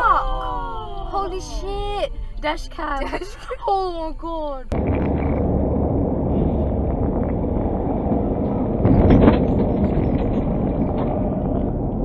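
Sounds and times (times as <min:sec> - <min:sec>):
moving vehicle rumble: 0:00.0 - 0:12.0.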